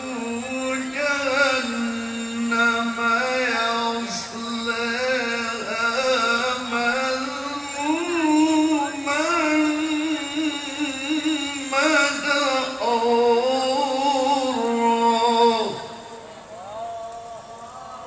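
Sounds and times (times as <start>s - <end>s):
man chanting over pa system: 0.0s - 18.0s.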